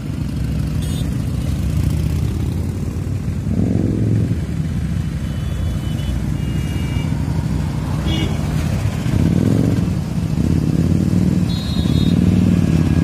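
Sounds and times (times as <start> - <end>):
motorcycle engines rumbling: 0.0 - 13.0
motorcycle revving: 0.0 - 13.0.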